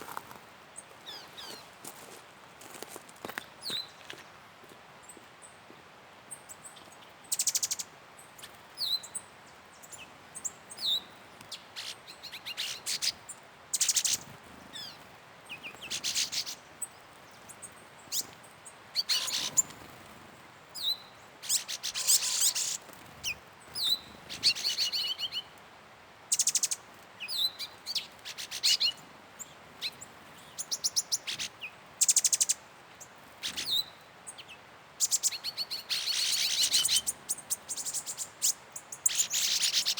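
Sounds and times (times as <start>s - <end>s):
birds chirping and trilling: 0.8s - 4.2s, 6.3s - 25.6s, 26.3s - 39.9s.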